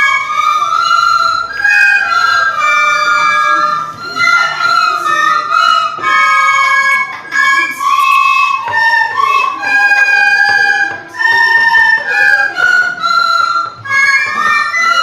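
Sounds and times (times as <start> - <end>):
recorder melody: 0.0 - 15.0.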